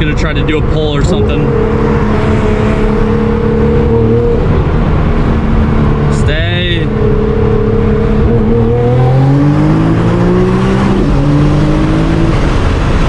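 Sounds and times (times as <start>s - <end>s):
car engine revving under full throttle: 0.0s - 13.0s.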